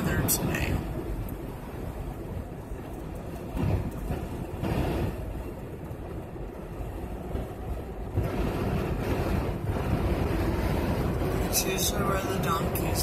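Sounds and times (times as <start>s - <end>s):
road noise inside car: 0.0s - 13.0s
wind buffeting car: 0.0s - 13.0s.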